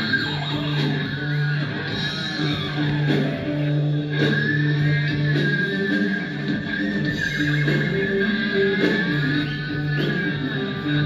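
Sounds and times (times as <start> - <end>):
guitar music: 0.0 - 11.0.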